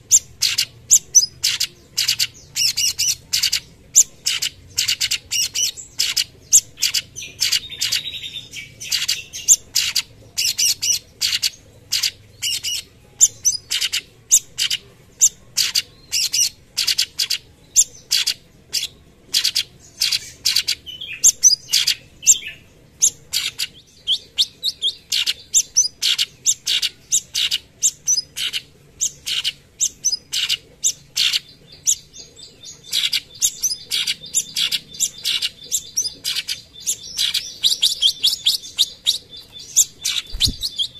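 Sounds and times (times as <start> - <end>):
bird singing rapid high notes: 0.0 - 40.9.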